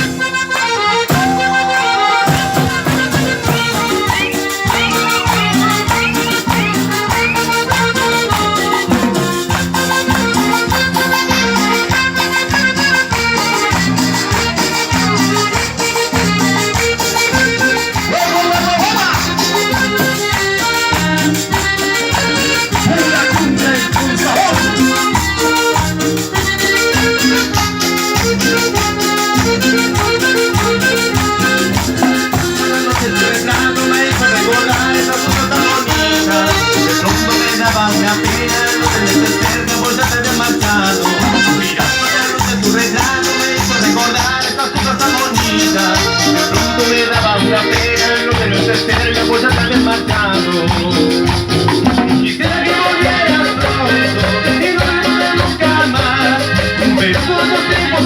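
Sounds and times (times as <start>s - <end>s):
accordion melody: 0.0s - 58.0s
steady beat with shakers: 1.0s - 58.0s.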